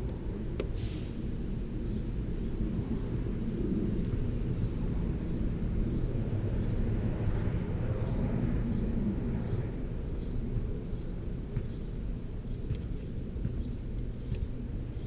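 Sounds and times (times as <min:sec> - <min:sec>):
low rumble of distant traffic: 0:00.0 - 0:15.0.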